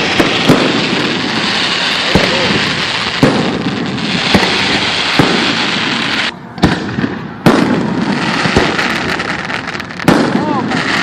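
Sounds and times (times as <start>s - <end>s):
fireworks booms overhead: 0.0s - 11.0s
fireworks crackling: 0.0s - 11.0s.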